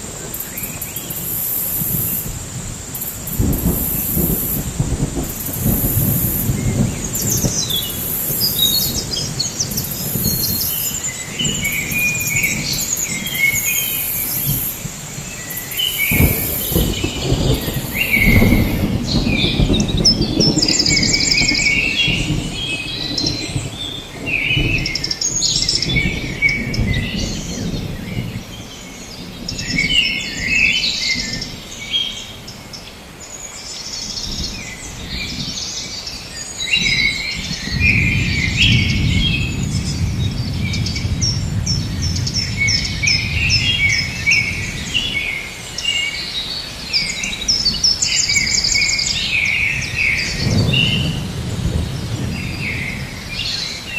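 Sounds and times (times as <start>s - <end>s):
birds chirping and trilling: 5.3s - 53.9s.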